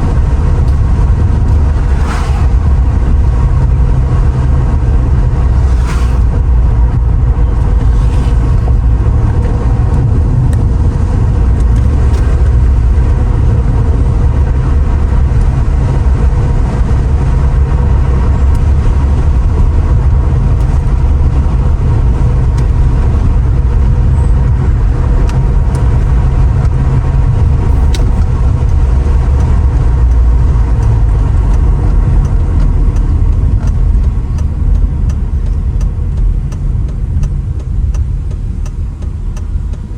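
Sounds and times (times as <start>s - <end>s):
car engine rumbling: 0.0s - 39.9s
road noise: 0.0s - 39.9s.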